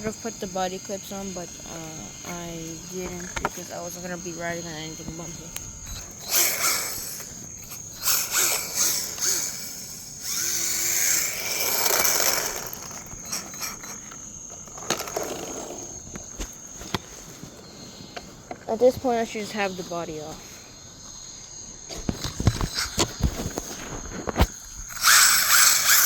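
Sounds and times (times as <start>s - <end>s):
crickets chirping: 0.0s - 26.0s
rc car motor whirring: 0.0s - 26.0s.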